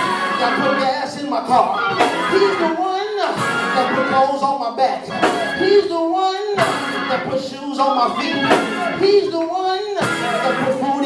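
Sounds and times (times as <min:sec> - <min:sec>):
backing music: 0:00.0 - 0:11.0.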